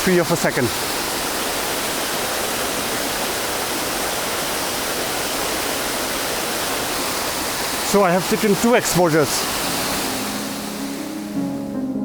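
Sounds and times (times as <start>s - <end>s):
waterfall rushing: 0.0s - 11.7s.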